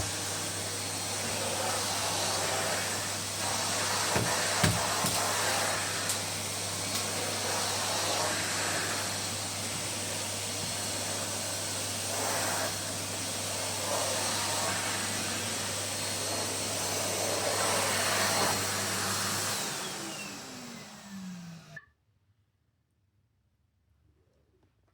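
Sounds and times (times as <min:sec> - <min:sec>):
vacuum cleaner running: 0:00.0 - 0:21.8.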